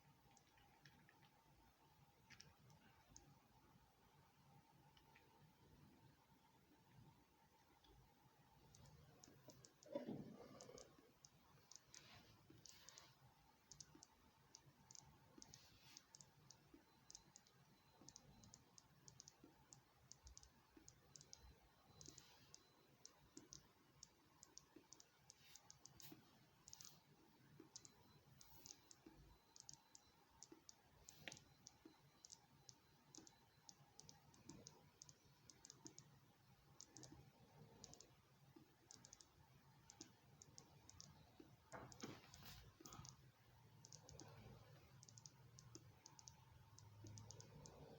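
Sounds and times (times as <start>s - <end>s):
faint crackle of tiny clicks: 0.0s - 3.4s, 8.6s - 47.9s.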